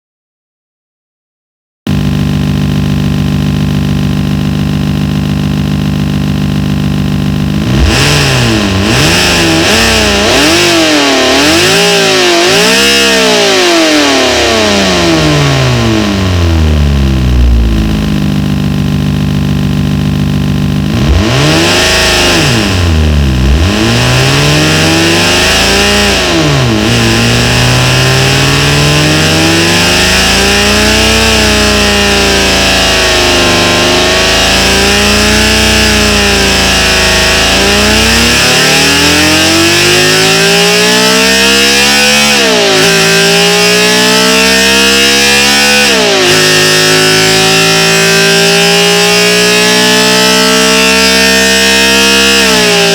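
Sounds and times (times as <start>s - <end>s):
synthesized engine revving: 1.9s - 52.9s.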